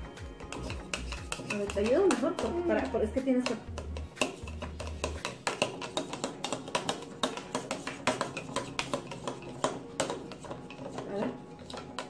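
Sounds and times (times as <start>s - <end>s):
spoon stirring in plastic cup: 0.0s - 12.0s.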